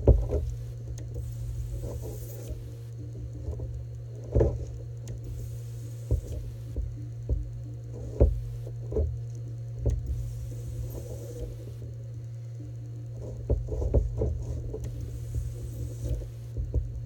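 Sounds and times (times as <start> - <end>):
ultrasonic welder thumps: 0.0 - 11.8, 13.2 - 17.0
low hum: 0.0 - 17.0.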